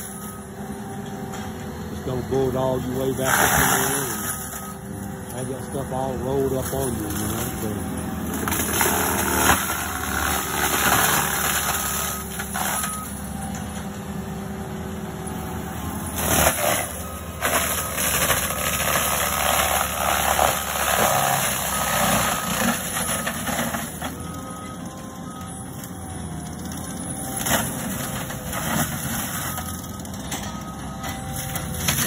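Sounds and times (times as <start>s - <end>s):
diesel engine under load: 0.0s - 32.0s
mulcher grinding through brush: 0.0s - 32.0s.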